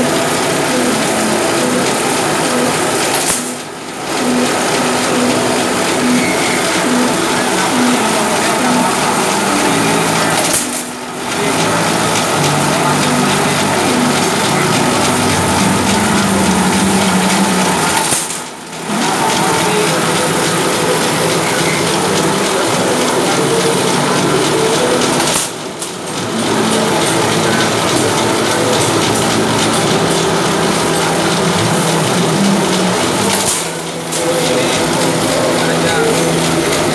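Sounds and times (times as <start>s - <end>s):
wire-straightening machine rattling: 0.0s - 36.9s.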